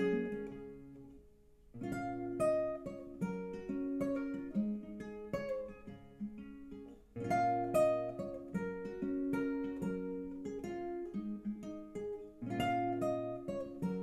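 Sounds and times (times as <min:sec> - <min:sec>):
classical guitar playing: 0:00.0 - 0:14.0.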